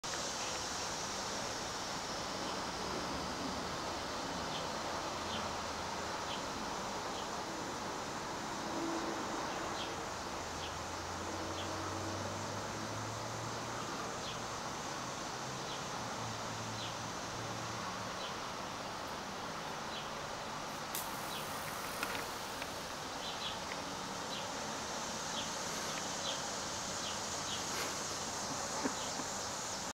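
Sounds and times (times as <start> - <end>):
insect chirping: 0.0 - 29.9
steady hiss: 0.0 - 29.9.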